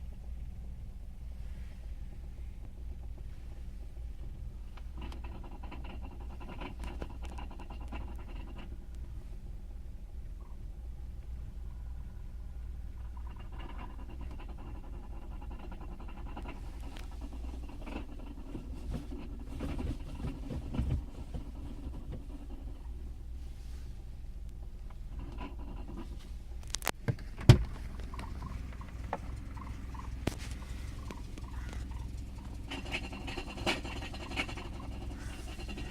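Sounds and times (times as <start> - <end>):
car engine idling with rattle: 0.0 - 35.9.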